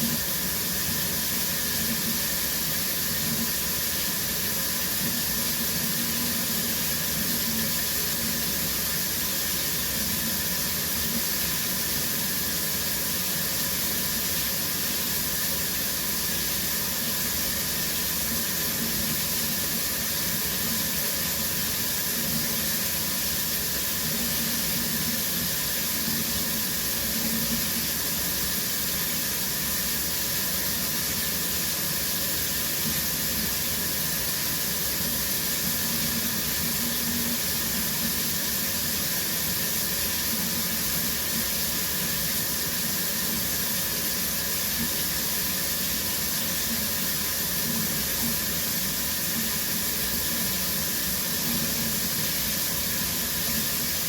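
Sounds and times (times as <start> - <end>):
shower spray hissing: 0.0 - 54.0.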